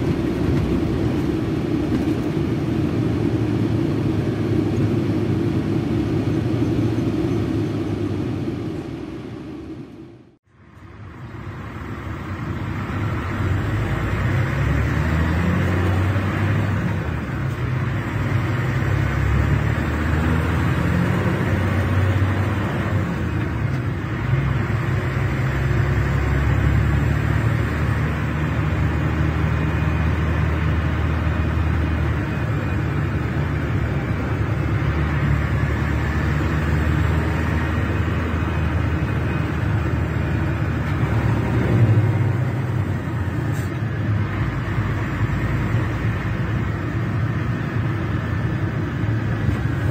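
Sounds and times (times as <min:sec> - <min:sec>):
bus diesel engine running: 0:00.0 - 0:49.9
road noise: 0:00.0 - 0:49.9.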